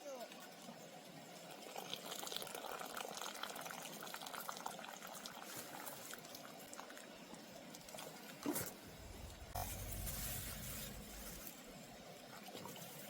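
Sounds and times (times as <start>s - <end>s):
soup bubbling at a boil: 0.2s - 13.0s.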